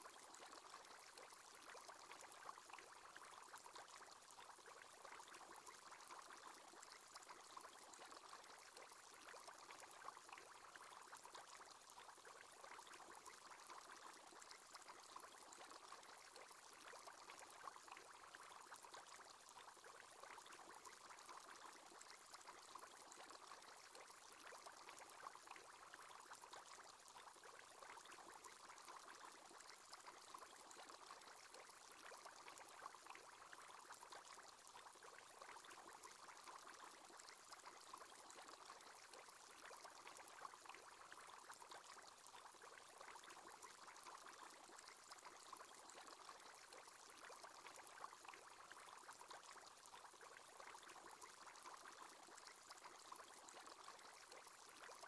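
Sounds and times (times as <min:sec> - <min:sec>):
faint bubbling water: 0:00.0 - 0:55.0.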